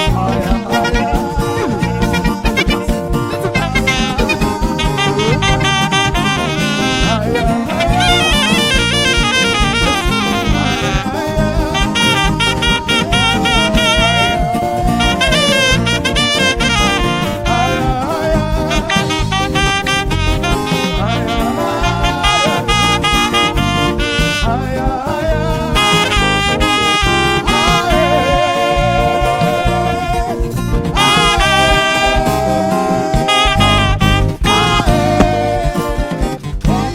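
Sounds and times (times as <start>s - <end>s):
bass-heavy accompaniment: 0.0s - 36.9s
instrumental band music: 0.0s - 36.9s
saxophone lead melody: 0.0s - 36.9s.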